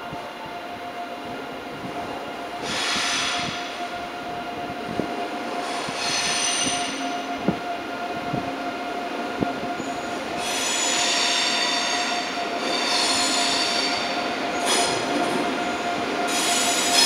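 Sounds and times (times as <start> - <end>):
train wheels squealing on rails: 0.4 - 17.0.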